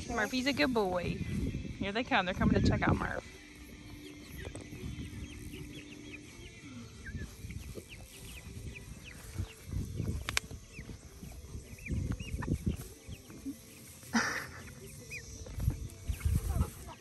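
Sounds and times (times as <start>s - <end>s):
chickens peeping: 0.1s - 17.0s.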